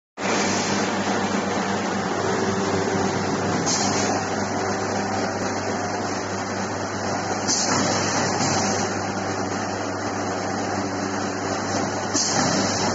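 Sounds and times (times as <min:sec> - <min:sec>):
machinery humming and whirring: 0:00.2 - 0:12.9.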